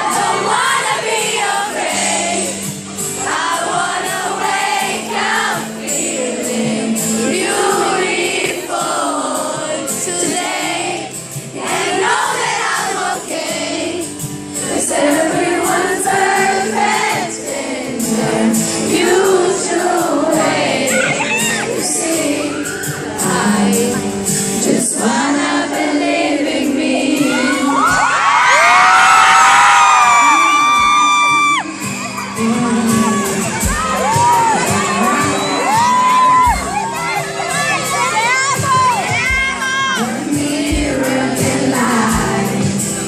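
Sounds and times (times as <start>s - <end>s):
crowd singing along: 0.0s - 43.0s
person singing lead: 3.3s - 28.7s, 29.8s - 43.0s.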